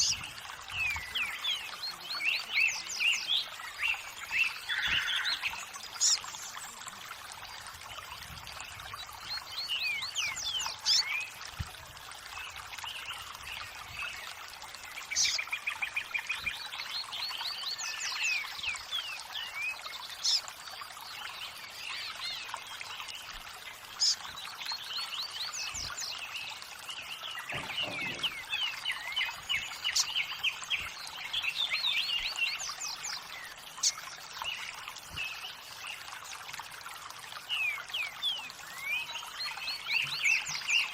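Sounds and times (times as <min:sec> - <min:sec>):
songbirds chirping and trilling: 0:00.0 - 0:40.9
water trickling: 0:00.0 - 0:40.9.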